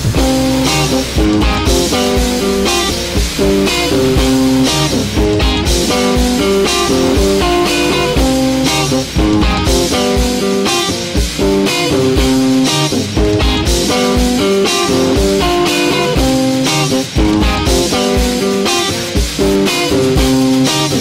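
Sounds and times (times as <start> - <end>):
bass: 0.0 - 21.0
drums: 0.0 - 21.0
guitar melody: 0.0 - 21.0.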